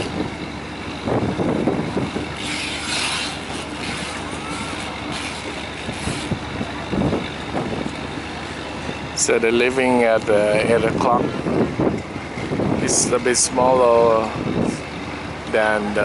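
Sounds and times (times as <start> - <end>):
large engine running: 0.0 - 16.0.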